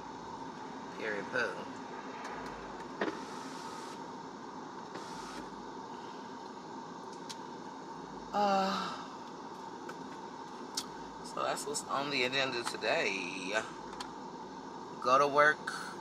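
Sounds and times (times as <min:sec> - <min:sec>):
air-conditioning blower hiss: 0:00.0 - 0:16.0.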